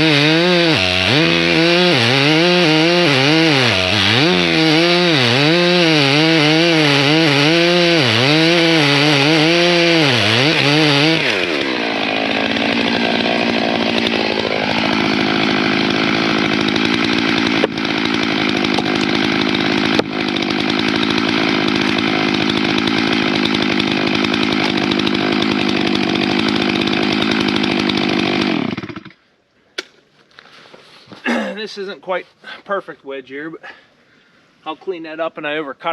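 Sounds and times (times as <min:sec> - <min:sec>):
chainsaw cutting into tree trunk: 0:00.0 - 0:29.2.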